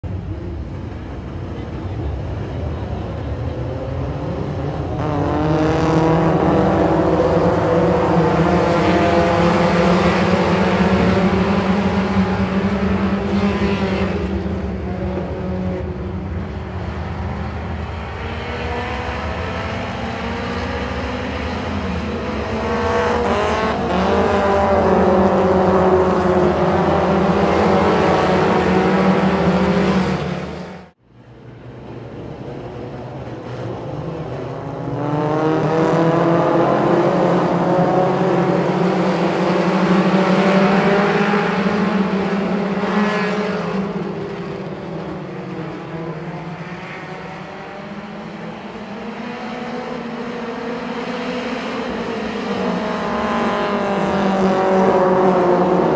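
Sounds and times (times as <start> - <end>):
race car engines: 0.0 - 55.9.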